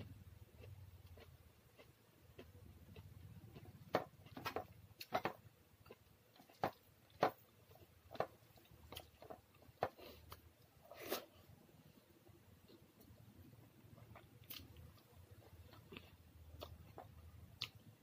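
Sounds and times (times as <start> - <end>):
person chewing food: 0.0 - 11.4, 12.6 - 18.0.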